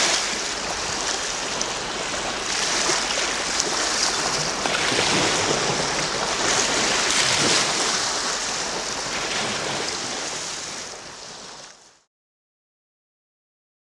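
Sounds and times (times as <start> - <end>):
waves lapping on pebble beach: 0.0 - 11.8.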